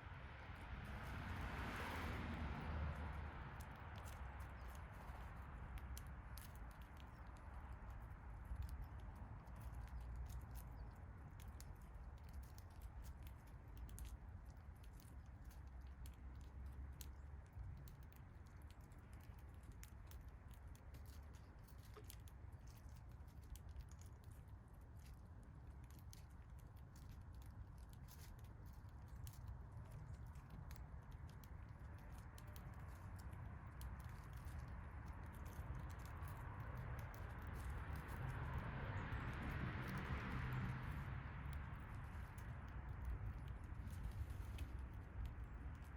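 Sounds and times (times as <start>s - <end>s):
birds pecking at seeds: 0.3s - 45.9s.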